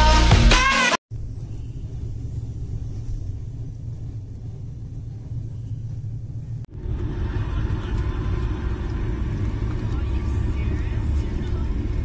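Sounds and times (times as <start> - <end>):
train rumbling: 1.1 - 12.0.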